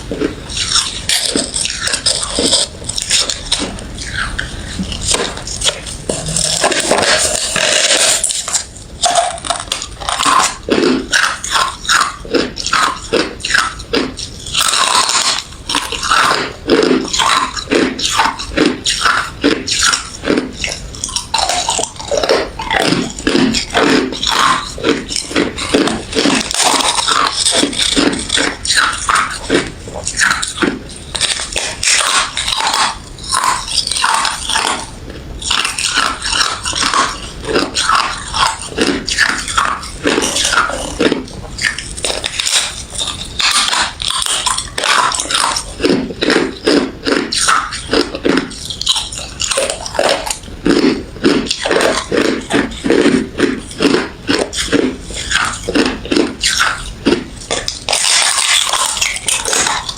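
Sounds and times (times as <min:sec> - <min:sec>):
crunchy ice chewing: 0:00.0 - 0:59.9.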